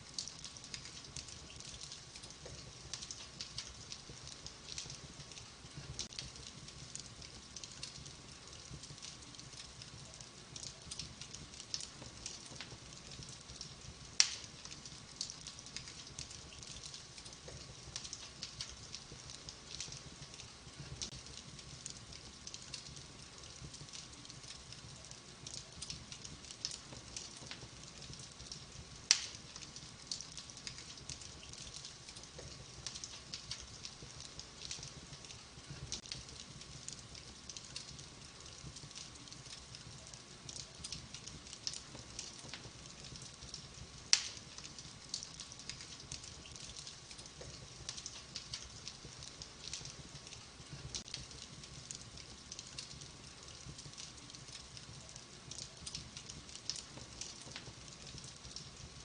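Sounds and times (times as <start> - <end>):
wood fire crackling: 0.0 - 59.0
loud pops from fire: 0.1 - 54.9.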